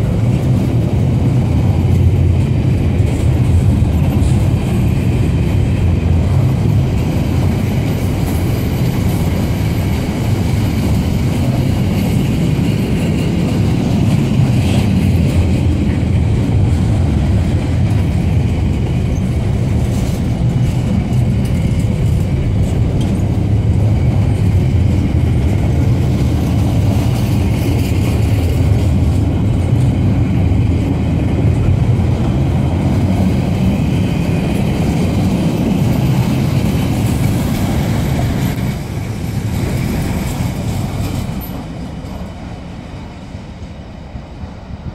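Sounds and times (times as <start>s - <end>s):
steel train wheels rumbling on rail: 0.0s - 44.9s.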